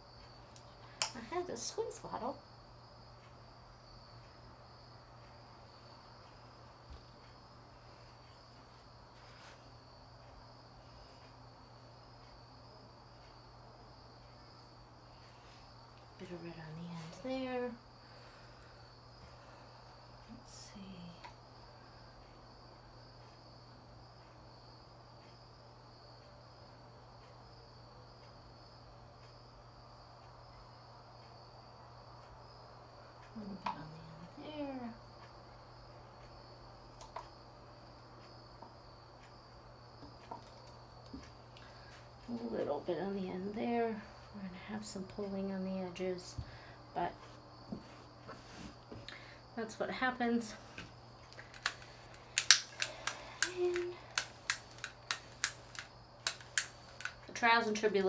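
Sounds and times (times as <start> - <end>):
crickets trilling: 0.0 - 58.0
low steady hum: 0.0 - 58.0.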